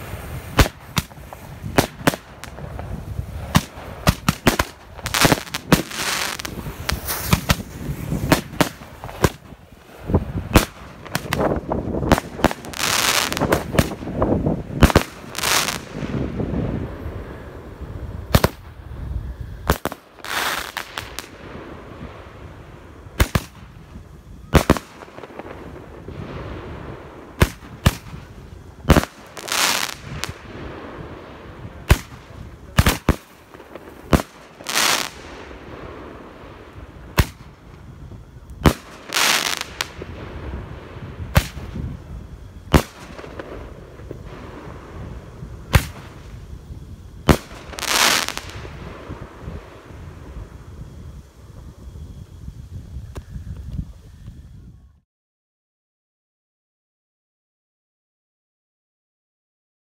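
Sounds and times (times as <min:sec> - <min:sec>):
hissing firework bursts: 0:00.0 - 0:54.9.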